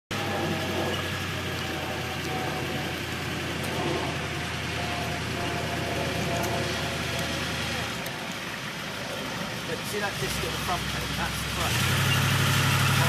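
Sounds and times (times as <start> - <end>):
engine idling: 0.1 - 13.0.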